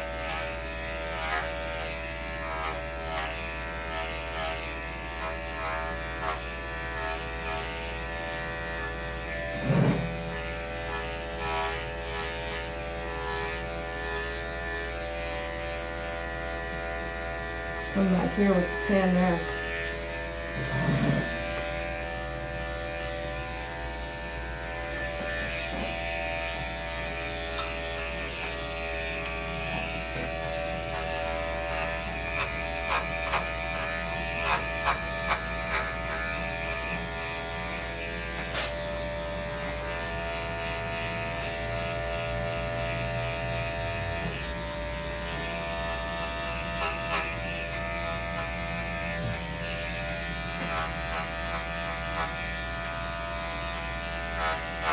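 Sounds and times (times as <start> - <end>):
electric clipper buzzing: 0.0 - 54.9.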